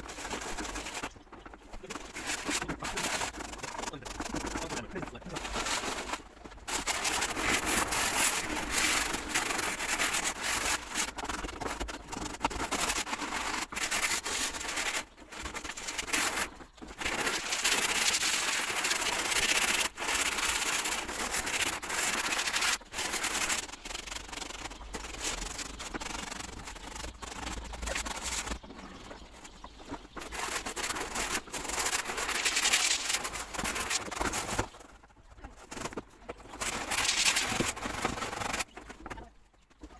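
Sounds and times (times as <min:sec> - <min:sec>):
hand rubbing and scraping surface: 0:00.0 - 0:34.9, 0:35.5 - 0:39.0.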